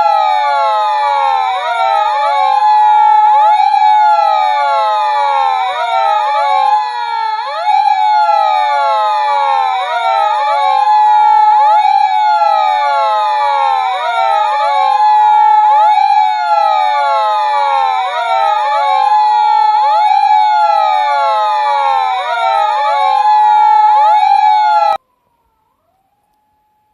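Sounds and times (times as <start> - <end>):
steady high tone: 0.0 - 25.0
toy police car sirens wailing: 0.0 - 25.0.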